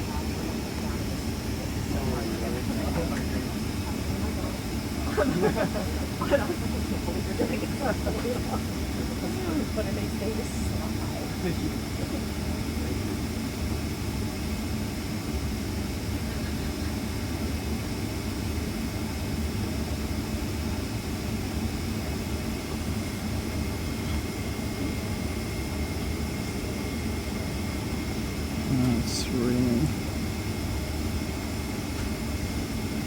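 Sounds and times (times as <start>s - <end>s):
aircraft cabin drone: 0.0s - 33.0s.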